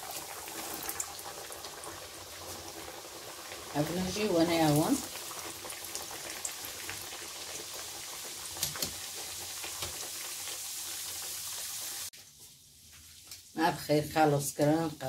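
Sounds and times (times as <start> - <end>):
pastries deep-frying in oil: 0.0 - 15.0.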